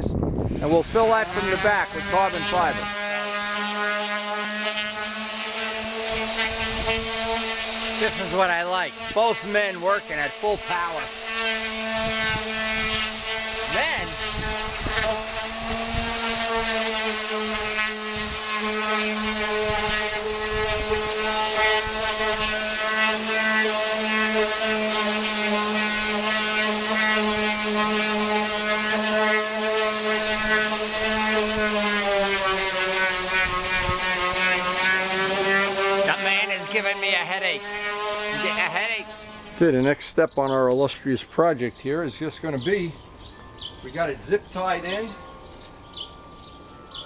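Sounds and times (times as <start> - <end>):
electric sander whine: 0.0 - 39.9
lower sander hum: 0.0 - 39.9.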